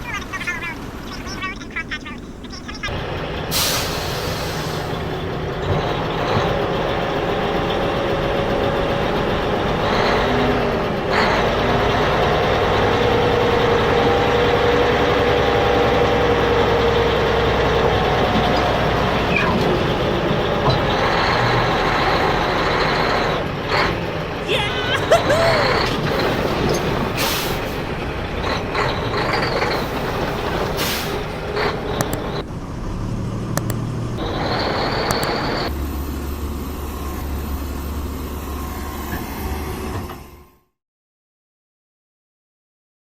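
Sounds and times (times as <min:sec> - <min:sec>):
truck engine running: 0:00.0 - 0:38.4.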